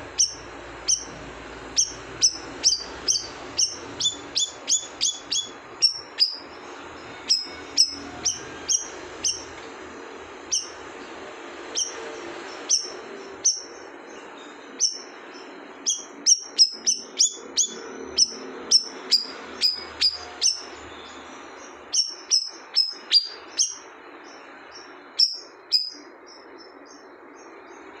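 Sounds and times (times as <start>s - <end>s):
bird chirping: 0.0s - 9.6s, 10.4s - 11.0s, 11.6s - 28.0s.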